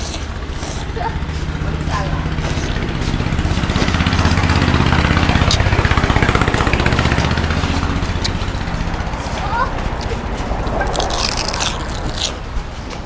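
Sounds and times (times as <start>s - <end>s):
small engine pulsing: 0.0s - 12.4s.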